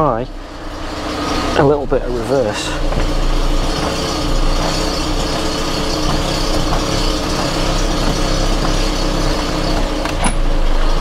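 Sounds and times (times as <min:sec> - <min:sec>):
car engine idling: 0:00.0 - 0:11.0
exhaust leak: 0:00.0 - 0:11.0.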